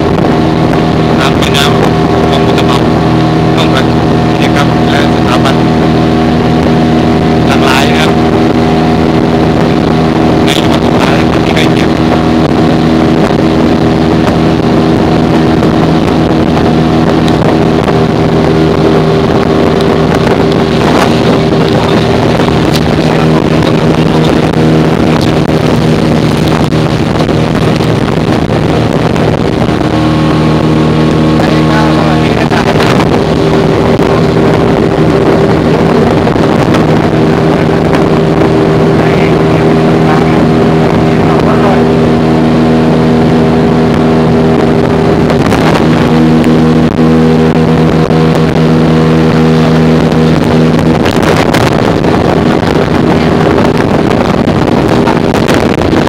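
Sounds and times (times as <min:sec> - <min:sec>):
boat motor running: 0:00.0 - 0:56.0
wind buffeting microphone: 0:00.0 - 0:56.0.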